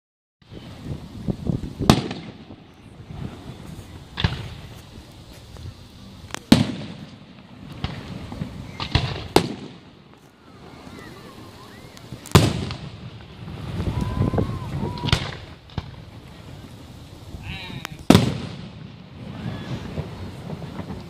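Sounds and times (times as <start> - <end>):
fireworks pops and crackle: 0.4 - 21.0
fireworks sharp bangs: 0.4 - 21.0.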